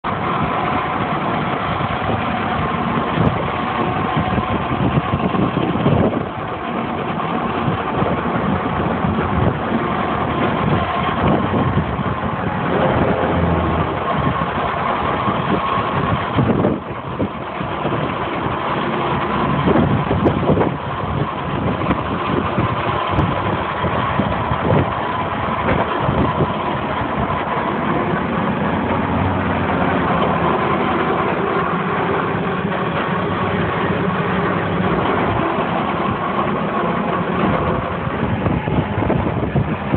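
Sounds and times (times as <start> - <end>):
tractor engine: 0.0 - 39.9
grinder grinding hay bale: 0.1 - 39.9.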